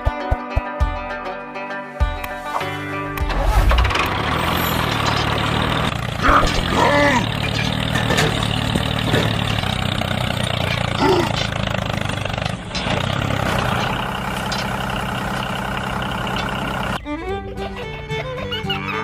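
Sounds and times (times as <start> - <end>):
engine idling: 3.1 - 18.5.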